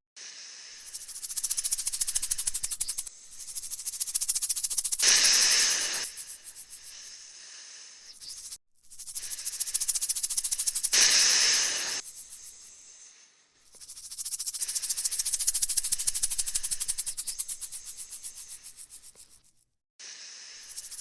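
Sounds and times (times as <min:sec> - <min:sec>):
rattlesnake rattle buzzing: 0:00.2 - 0:21.0
snake hissing: 0:00.2 - 0:21.0.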